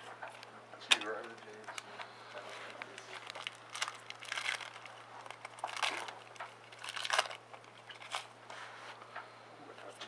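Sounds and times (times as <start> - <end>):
cards being handled: 0.2 - 8.3
foil wrapper crinkling: 0.3 - 8.4.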